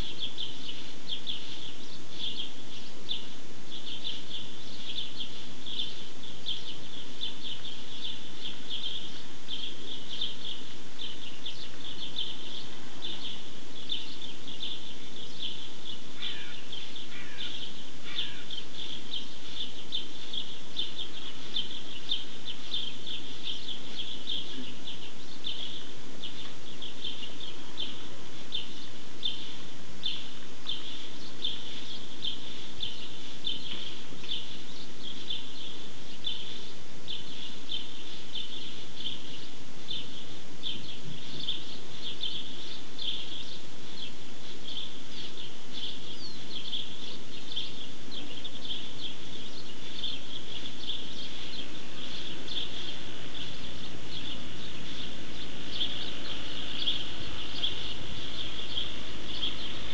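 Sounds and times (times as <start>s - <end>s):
small birds chirping: 0.0s - 59.9s
steady hiss: 0.0s - 59.9s.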